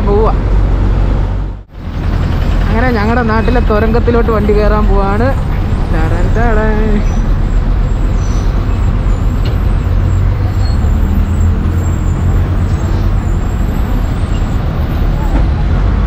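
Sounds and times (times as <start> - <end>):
bus engine running: 0.0 - 16.0
road noise: 0.0 - 16.0.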